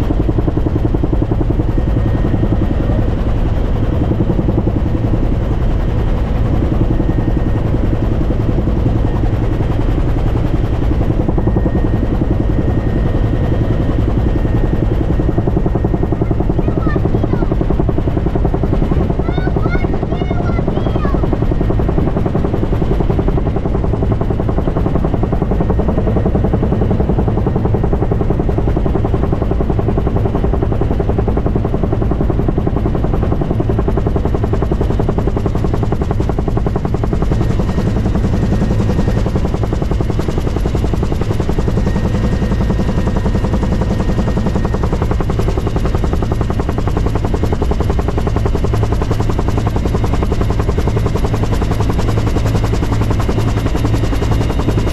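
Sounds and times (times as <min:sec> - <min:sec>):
helicopter engine drone: 0:00.0 - 0:54.9
helicopter rotor blades beating: 0:00.0 - 0:54.9.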